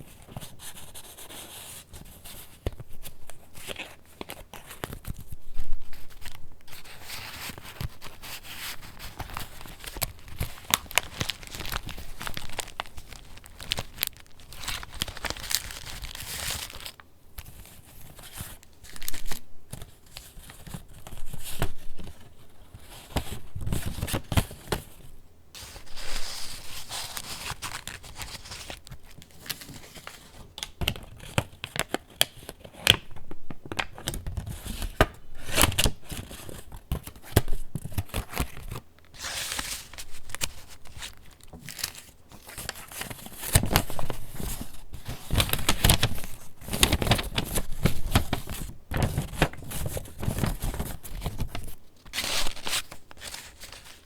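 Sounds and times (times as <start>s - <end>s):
paper rustling and crinkling: 0.0s - 54.0s.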